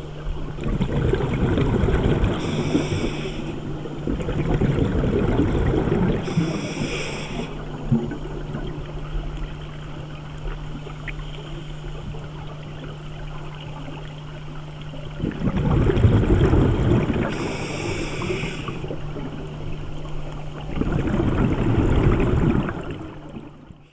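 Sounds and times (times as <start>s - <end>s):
exhaled bubbles rumbling underwater: 0.0s - 23.9s
steady low hum: 0.0s - 23.9s.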